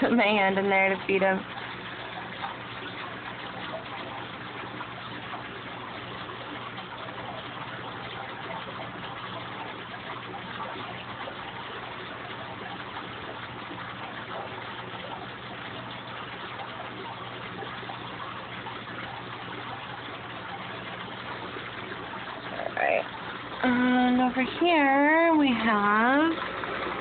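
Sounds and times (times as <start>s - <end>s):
aquarium water bubbling: 0.0s - 27.0s.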